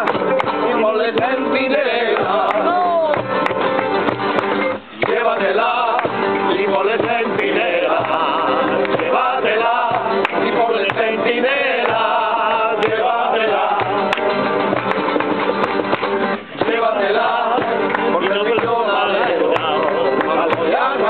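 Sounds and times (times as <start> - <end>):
men singing: 0.0 - 3.5, 4.6 - 14.8, 16.3 - 21.0
acoustic guitars strumming: 0.0 - 21.0.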